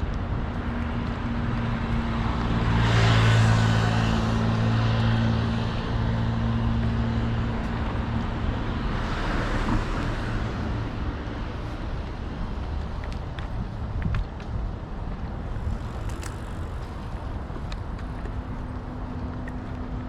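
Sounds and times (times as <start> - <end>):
car passing: 1.2 - 12.8, 14.7 - 20.0.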